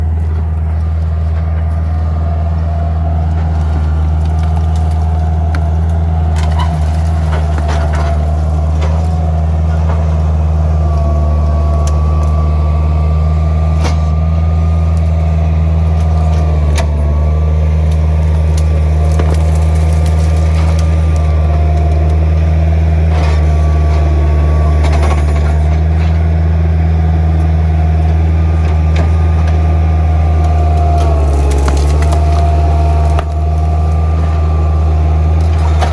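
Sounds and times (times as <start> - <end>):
skid steer engine running: 0.0 - 35.9.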